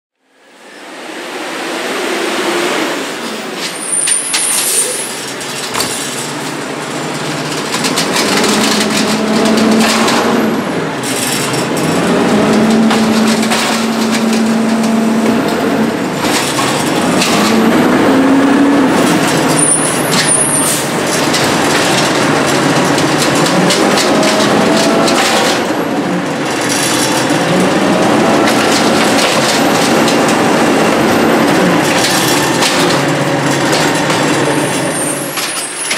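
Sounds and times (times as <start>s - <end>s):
garbage truck engine revving: 0.8s - 35.9s.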